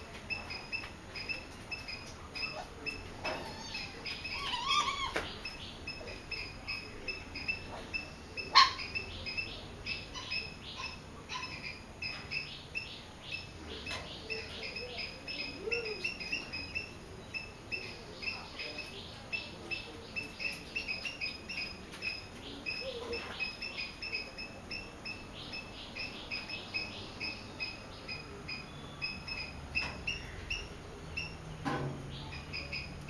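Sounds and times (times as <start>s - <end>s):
small bird chirping: 0.1s - 33.0s.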